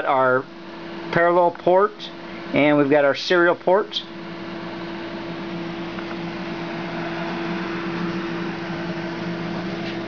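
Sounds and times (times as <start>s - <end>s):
cooling fan whirring: 0.0s - 10.0s
low electrical hum: 0.0s - 10.0s.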